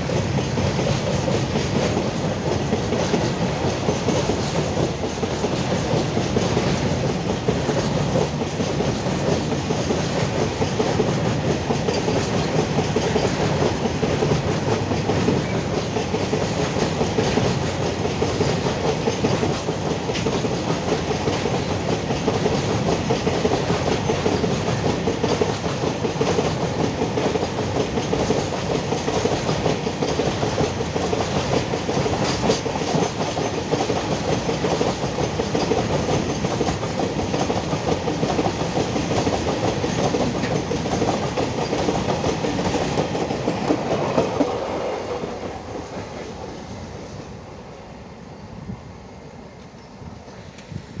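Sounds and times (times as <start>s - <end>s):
freight train wheels clattering: 0.0s - 47.0s.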